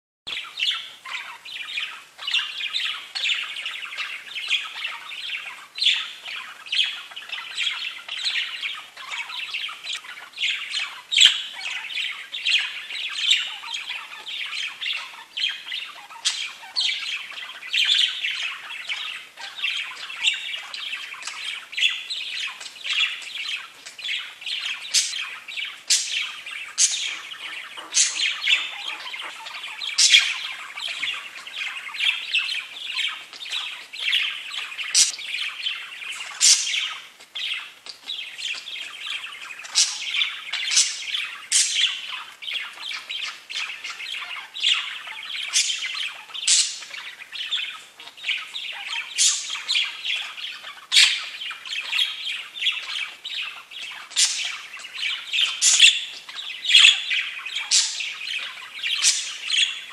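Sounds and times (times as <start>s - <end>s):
budgies chattering: 0.3s - 59.9s
sharp high bird calls: 0.3s - 59.9s.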